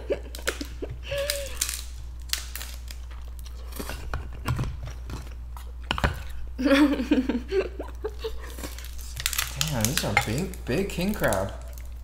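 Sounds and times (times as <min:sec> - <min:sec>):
crab shell clicking and crackling: 0:00.3 - 0:06.4, 0:08.2 - 0:12.0.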